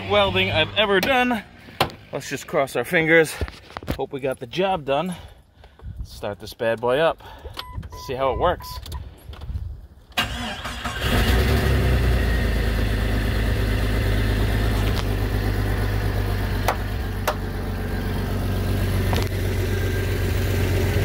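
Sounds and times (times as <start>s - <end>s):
car engine cranking and idling: 0.0s - 5.9s, 8.6s - 21.0s.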